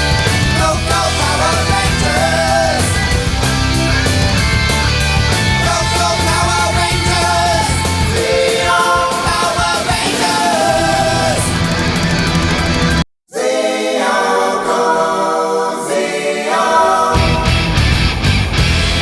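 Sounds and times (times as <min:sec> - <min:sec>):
rock music with singing: 0:00.0 - 0:13.0, 0:16.7 - 0:19.0.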